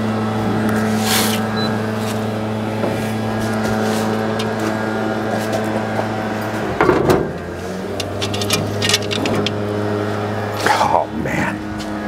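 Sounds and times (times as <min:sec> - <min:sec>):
smoker fan humming: 0:00.0 - 0:12.0.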